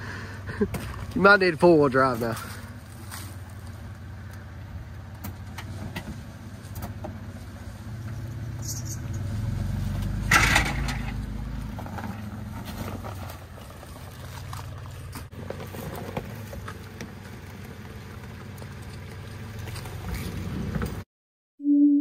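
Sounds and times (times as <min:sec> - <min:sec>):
truck engine at low revs: 0:00.0 - 0:21.0
tyres on wet ground: 0:00.0 - 0:21.0.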